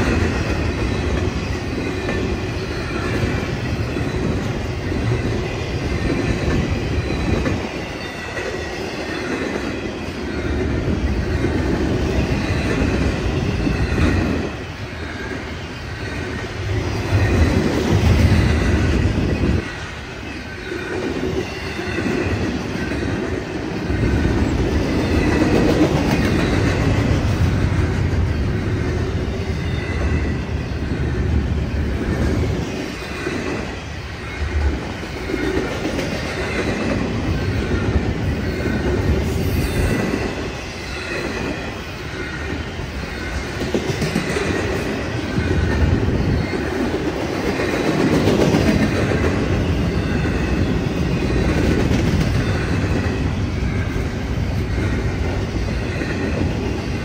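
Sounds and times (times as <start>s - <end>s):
freight train cars rumbling: 0.0s - 57.0s
high ringing of wheels on rails: 0.0s - 57.0s.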